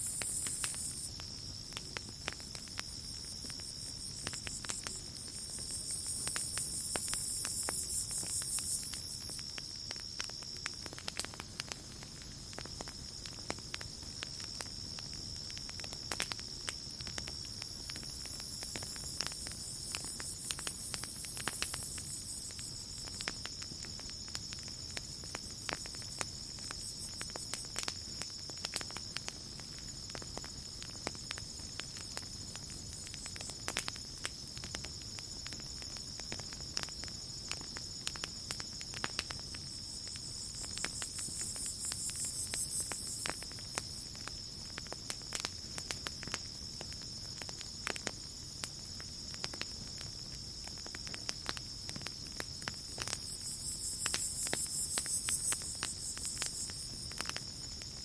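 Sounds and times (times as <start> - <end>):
night insects chirring: 0.0 - 58.0
campfire crackling and popping: 0.1 - 58.0.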